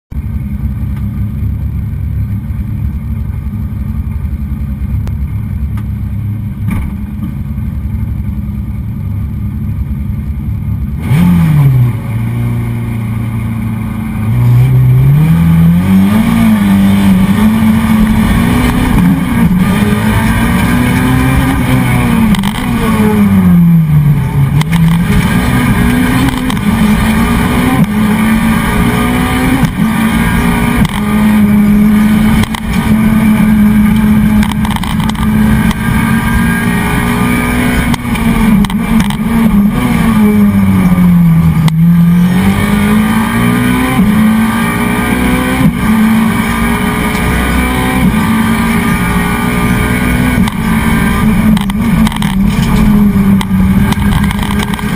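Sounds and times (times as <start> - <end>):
rally car engine revving: 0.1 - 54.9.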